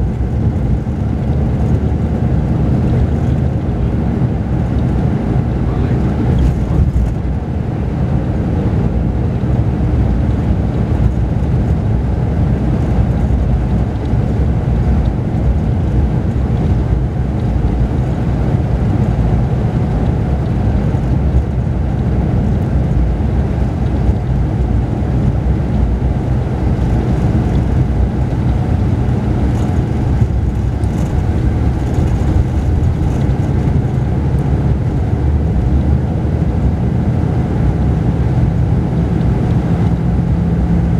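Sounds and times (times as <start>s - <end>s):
bus diesel engine drone: 0.0s - 40.9s
road noise: 0.0s - 40.9s.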